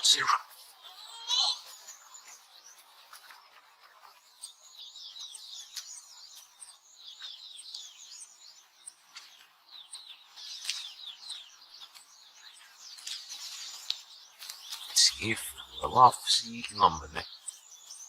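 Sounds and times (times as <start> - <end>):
small birds twittering: 0.0 - 18.0.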